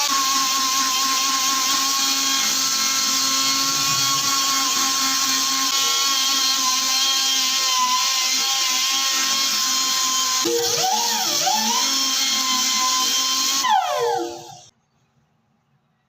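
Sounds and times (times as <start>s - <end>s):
power tool whining: 0.0s - 14.7s.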